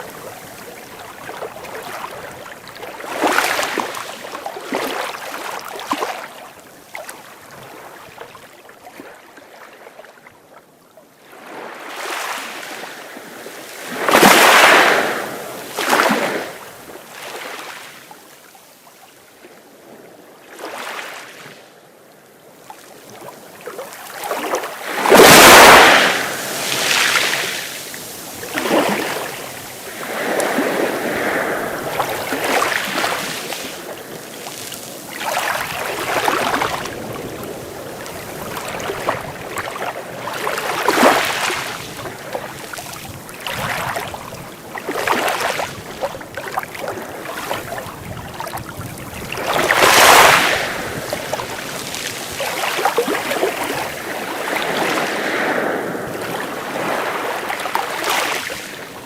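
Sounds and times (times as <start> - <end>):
sea waves breaking on shore: 0.0 - 10.2, 11.2 - 21.7, 22.4 - 59.0.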